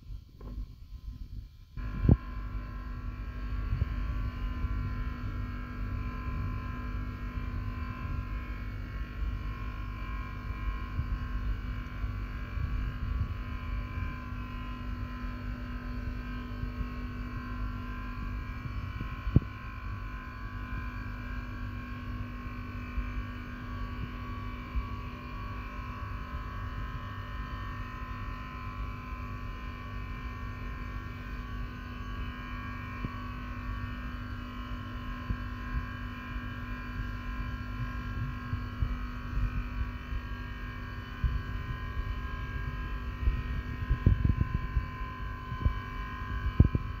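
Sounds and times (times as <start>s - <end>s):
hum of held tones: 0.0s - 47.0s.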